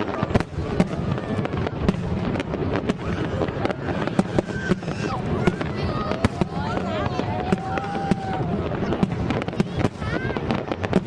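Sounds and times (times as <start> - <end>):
fireworks bangs and cracks: 0.0 - 11.0
rumble of fireworks bursts: 0.0 - 11.0.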